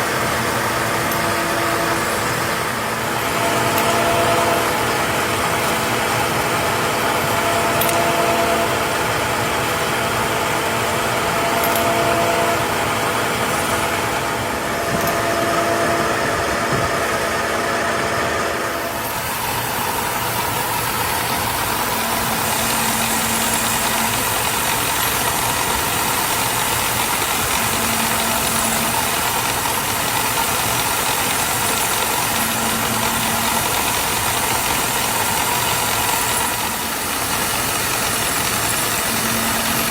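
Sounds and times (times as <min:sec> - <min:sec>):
held mechanical tones: 0:00.0 - 0:39.9
steady machine hum: 0:00.0 - 0:39.9
workshop machinery humming: 0:00.0 - 0:39.9.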